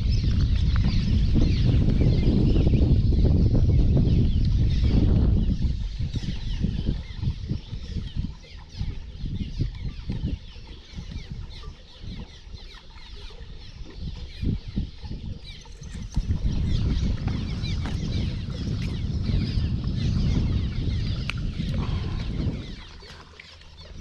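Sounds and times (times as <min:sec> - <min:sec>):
small birds chirping: 0:00.0 - 0:24.0
wind buffeting microphone: 0:00.0 - 0:24.0.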